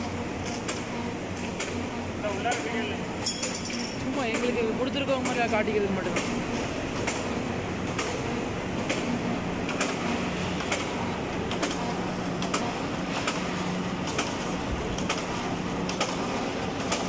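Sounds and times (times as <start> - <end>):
conveyor belt and rotating blades: 0.0 - 17.0.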